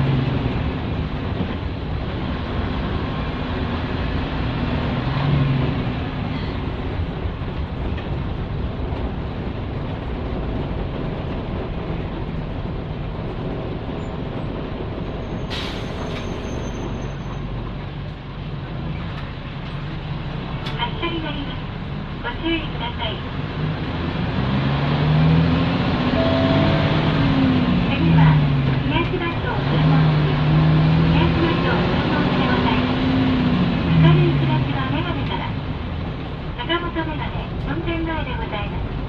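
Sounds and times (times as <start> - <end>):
bus diesel engine under load: 0.0 - 39.0.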